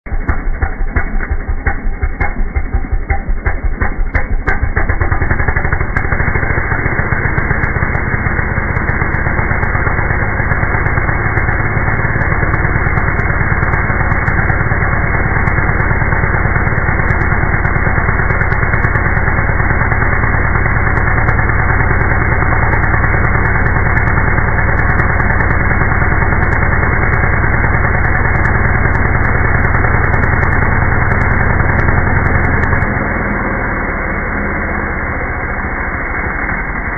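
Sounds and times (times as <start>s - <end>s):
chainsaw engine idling: 0.1s - 33.5s.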